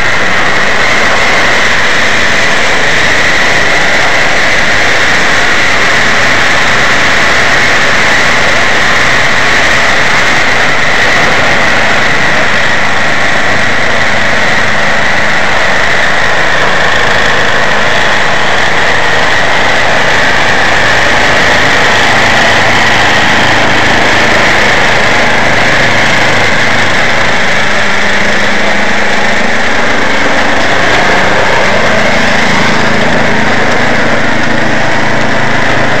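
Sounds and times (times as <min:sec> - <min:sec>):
snowblower engine running: 0:00.0 - 0:36.0.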